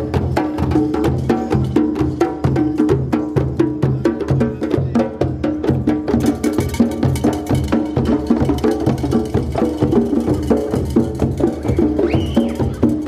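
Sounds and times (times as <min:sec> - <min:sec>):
drum ensemble playing: 0:00.0 - 0:13.0.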